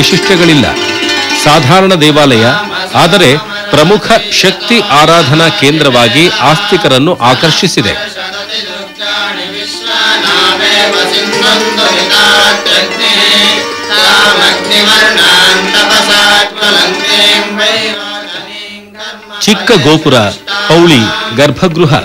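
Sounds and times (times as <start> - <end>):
instrumental accompaniment: 0.0 - 4.9, 8.0 - 22.0
chanted singing: 0.1 - 22.0.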